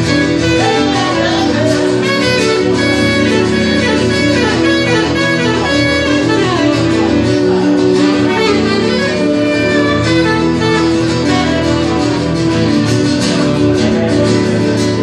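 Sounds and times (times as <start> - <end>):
saxophone melody: 0.0 - 14.1
acoustic guitar accompaniment: 0.0 - 15.0.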